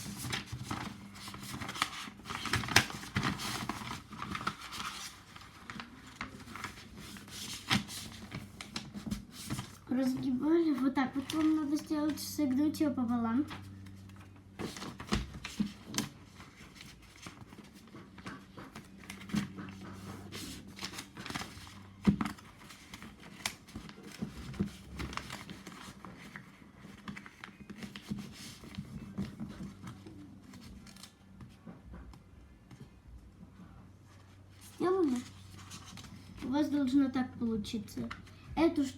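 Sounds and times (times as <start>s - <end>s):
sharp paper crack: 0.0s - 11.9s, 13.5s - 31.3s, 34.6s - 36.5s
paper rustling and crinkling: 0.0s - 12.3s, 13.5s - 32.0s, 34.1s - 37.0s.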